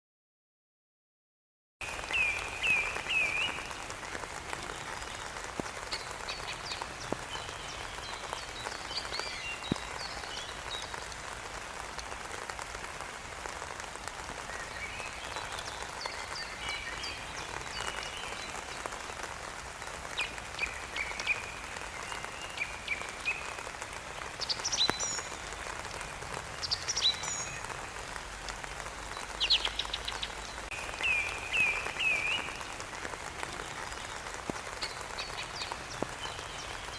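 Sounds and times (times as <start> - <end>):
steady rain falling: 1.8 - 36.9.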